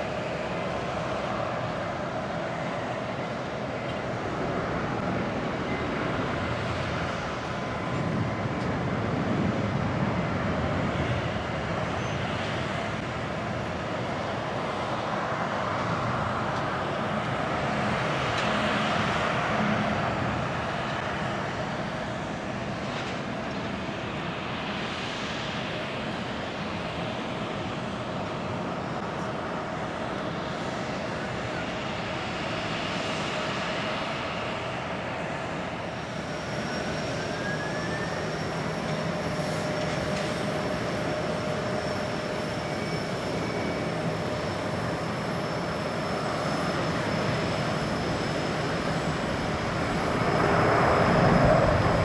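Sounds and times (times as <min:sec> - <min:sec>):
jet engines roaring and whining: 0:00.0 - 0:52.0.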